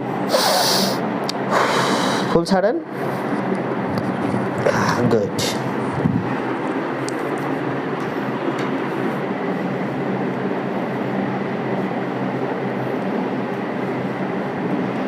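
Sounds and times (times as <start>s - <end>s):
steady mechanical noise: 0.0s - 15.0s.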